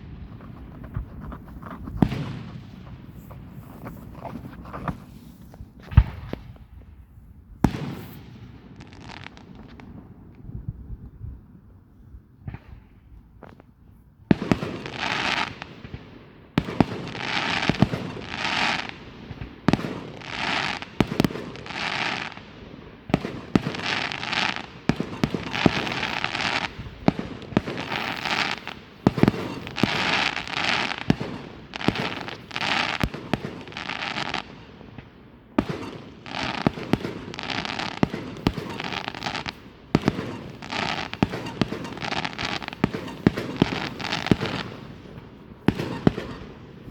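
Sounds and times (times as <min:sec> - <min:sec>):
fireworks crackling and popping: 0:00.0 - 0:11.7, 0:12.4 - 0:46.9.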